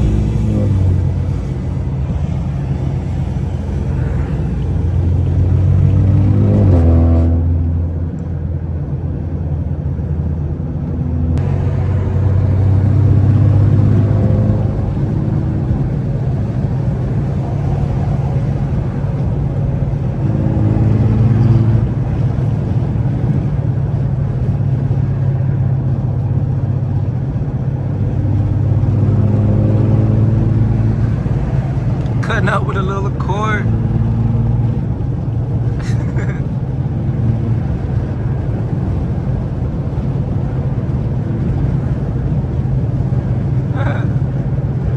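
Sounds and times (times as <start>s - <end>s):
tyre noise on wet road: 0.0s - 9.6s, 11.3s - 44.9s
car engine accelerating: 0.0s - 44.9s.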